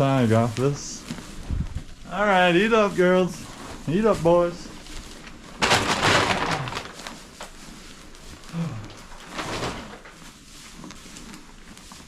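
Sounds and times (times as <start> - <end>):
feed rustling: 0.0 - 12.0.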